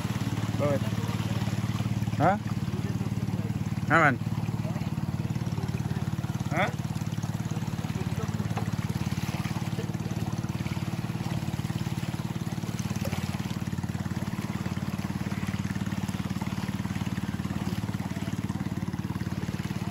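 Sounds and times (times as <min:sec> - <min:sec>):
boat engine running: 0:00.0 - 0:19.9
water rushing: 0:00.0 - 0:19.9
wind: 0:00.0 - 0:19.9.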